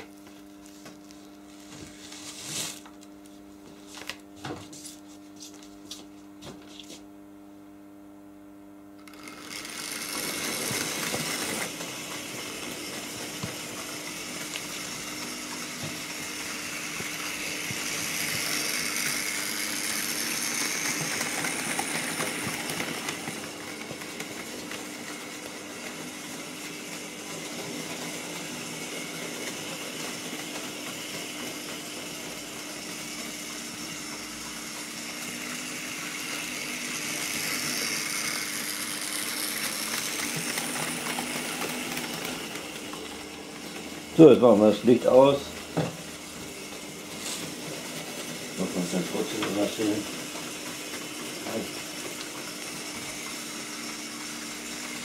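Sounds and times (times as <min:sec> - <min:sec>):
model train motors whirring: 0:09.0 - 0:55.0.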